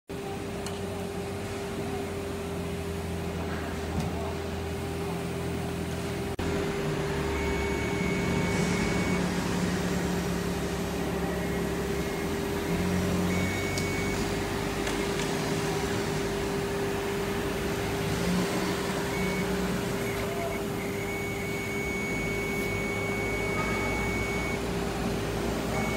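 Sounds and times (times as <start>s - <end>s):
electric machinery humming: 0.1s - 25.9s.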